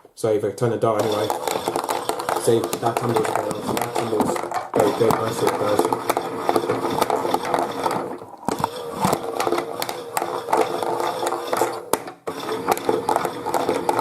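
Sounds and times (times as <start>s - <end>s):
toy washing machine motor humming: 1.0s - 14.0s.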